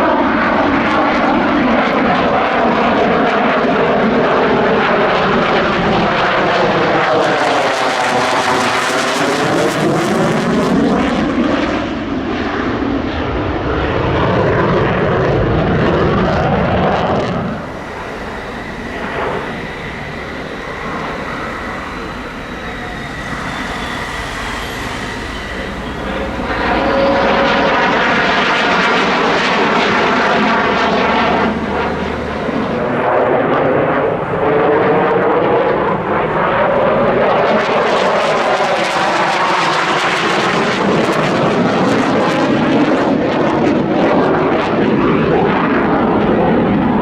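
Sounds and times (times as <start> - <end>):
high-pitched jet whine: 0.0 - 47.0
jet fighter passing overhead: 0.0 - 47.0.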